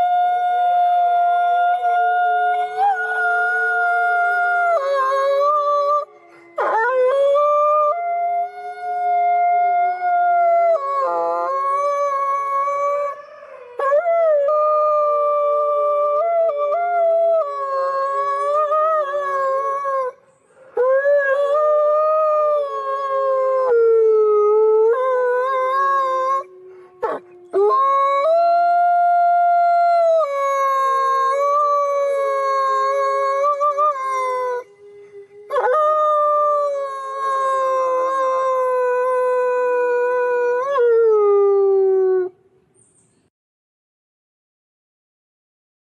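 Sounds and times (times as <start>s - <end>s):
wolf howling: 0.0s - 20.2s, 20.8s - 42.4s.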